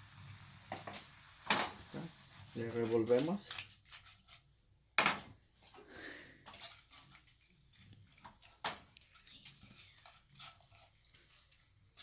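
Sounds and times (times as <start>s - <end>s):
wet stirring of pasta: 0.2s - 12.0s.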